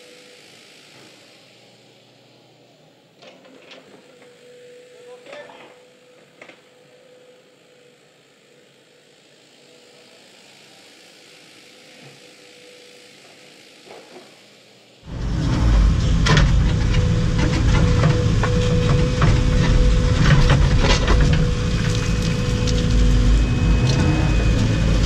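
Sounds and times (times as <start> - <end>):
excavator engine whine: 0.0 - 25.0.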